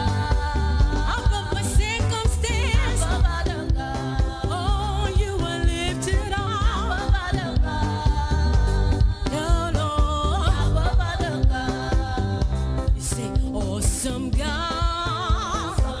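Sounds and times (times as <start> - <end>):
band with heavy bass: 0.0 - 16.0
singers with strong vibrato: 0.0 - 16.0.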